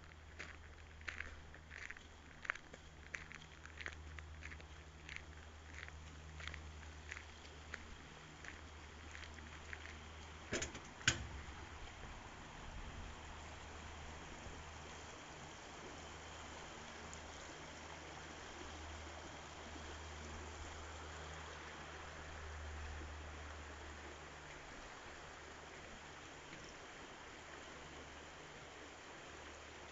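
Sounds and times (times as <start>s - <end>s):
stream water flowing: 0.0s - 29.9s.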